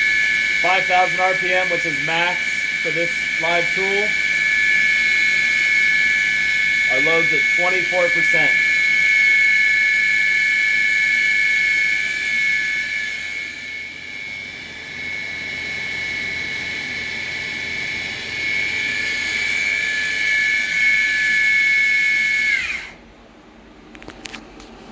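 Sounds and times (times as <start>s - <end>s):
lathe tool drive whining: 0.0s - 23.0s.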